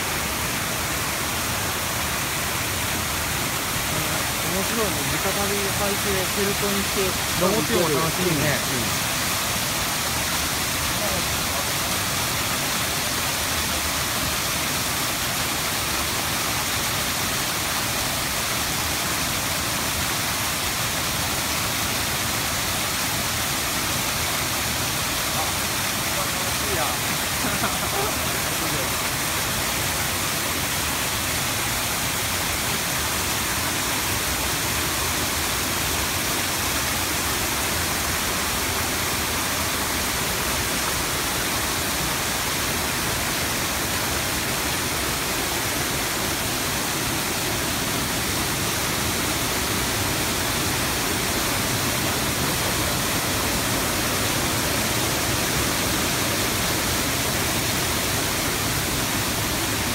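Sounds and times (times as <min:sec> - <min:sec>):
waterfall pouring into pool: 0:00.0 - 0:59.9.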